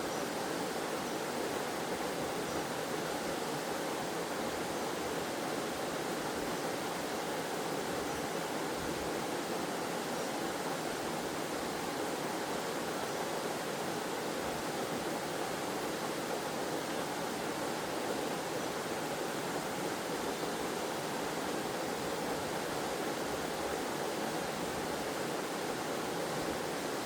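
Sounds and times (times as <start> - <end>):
waterfall and stream rushing: 0.0 - 27.0.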